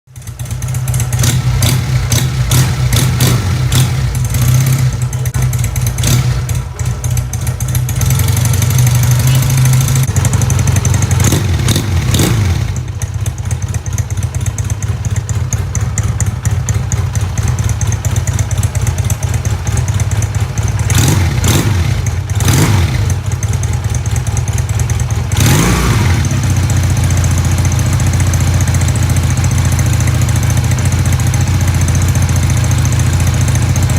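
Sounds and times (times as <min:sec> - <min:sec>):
motorcycle engine idling: 0:00.1 - 0:33.9
motorcycle throttle blips: 0:00.2 - 0:33.9.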